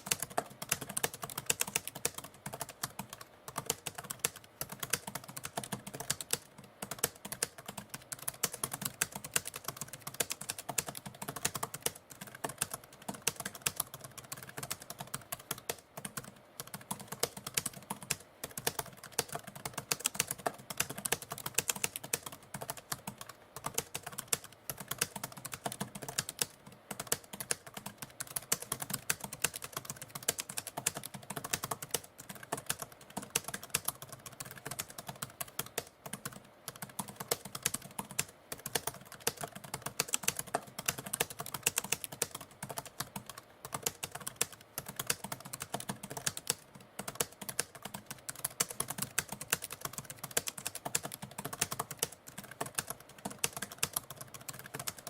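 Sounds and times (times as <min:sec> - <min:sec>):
typewriter keys clacking: 0:00.0 - 0:55.0.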